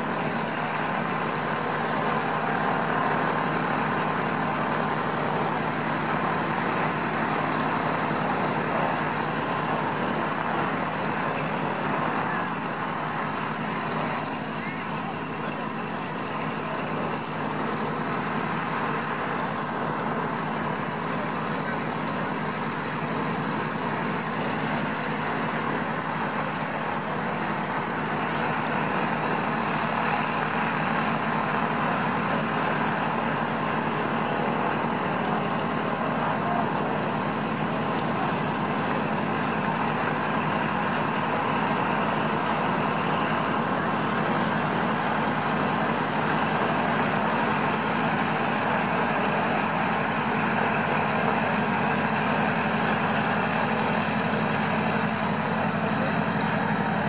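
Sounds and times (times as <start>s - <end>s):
propeller plane engines idling: 0.0s - 57.0s.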